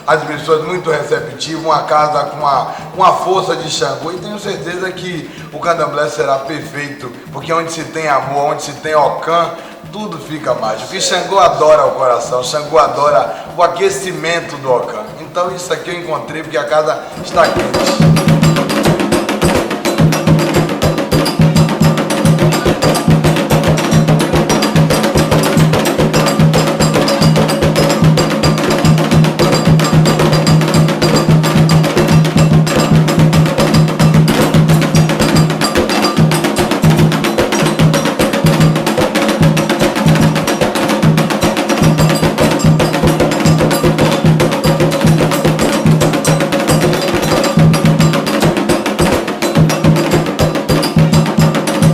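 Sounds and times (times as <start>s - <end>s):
percussion-heavy music: 0.0s - 51.9s.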